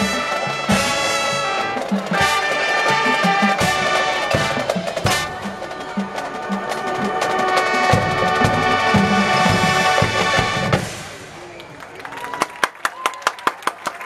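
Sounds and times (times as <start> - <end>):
drum hits: 0.0 - 11.4
marching band playing: 0.0 - 11.8.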